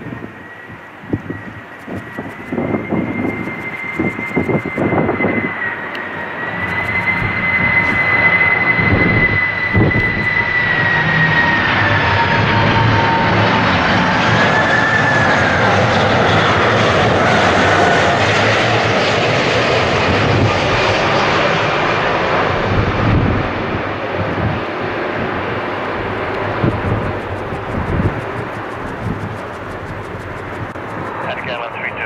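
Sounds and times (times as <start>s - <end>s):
jet engines rumbling and whining: 0.0s - 32.0s.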